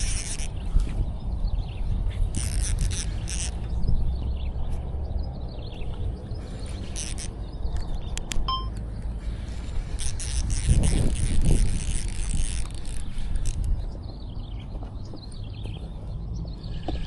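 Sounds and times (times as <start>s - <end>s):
wind buffeting microphone: 0.0s - 8.5s, 9.2s - 17.0s.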